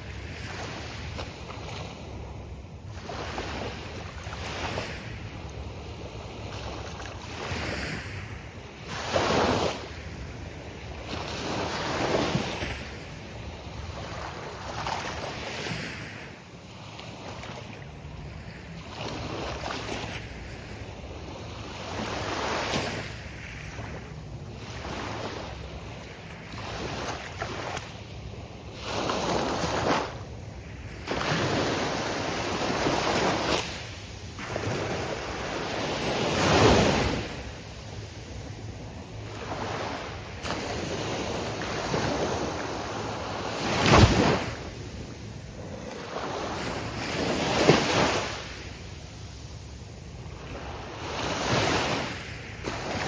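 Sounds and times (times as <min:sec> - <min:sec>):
waves breaking: 0:00.0 - 0:53.0.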